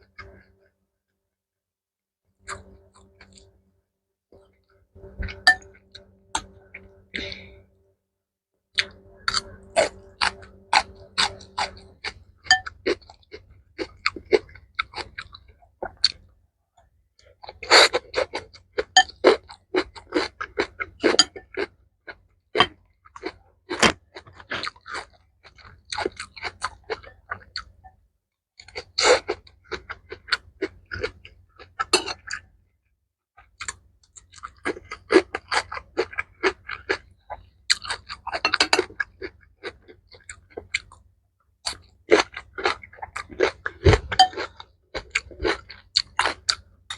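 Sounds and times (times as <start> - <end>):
close chewing and crunching: 2.4 - 3.6, 4.4 - 7.6, 8.8 - 16.4, 17.2 - 27.8, 28.6 - 32.6, 33.4 - 46.9.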